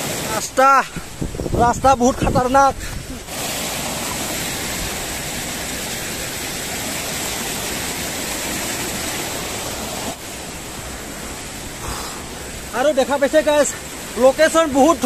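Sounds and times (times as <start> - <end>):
water rushing down stream cascade: 0.0 - 15.0.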